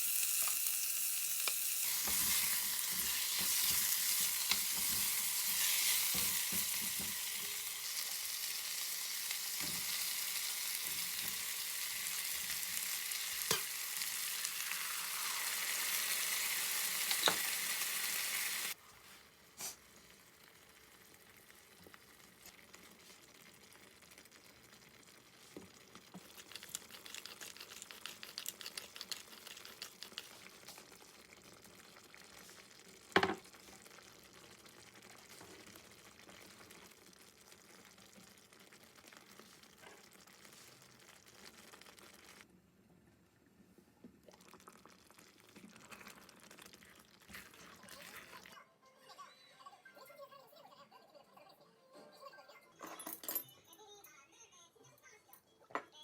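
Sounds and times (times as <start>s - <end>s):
food sizzling in a pan: 0.0s - 42.5s, 44.6s - 48.6s.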